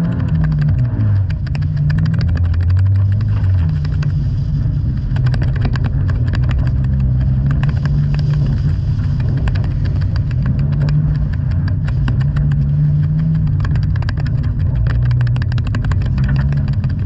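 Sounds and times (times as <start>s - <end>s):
car engine under load: 0.0s - 17.0s
sharp clicks and knocks: 0.0s - 17.0s.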